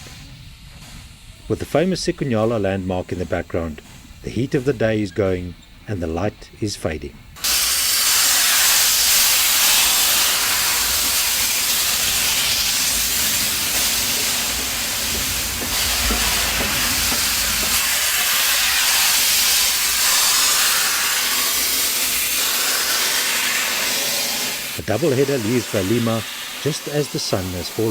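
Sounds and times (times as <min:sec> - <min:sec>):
steam locomotive venting steam: 0:00.0 - 0:05.0, 0:07.4 - 0:27.9.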